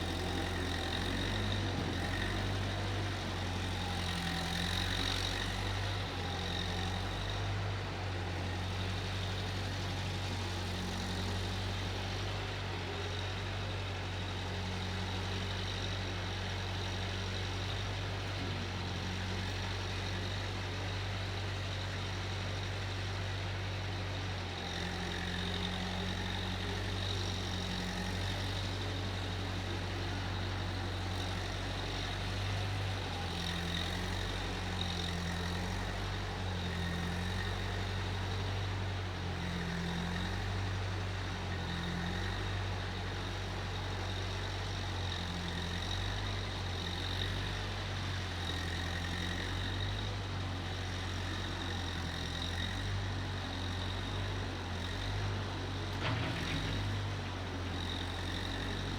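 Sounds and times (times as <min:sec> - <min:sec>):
skid steer engine running: 0:00.0 - 0:58.9.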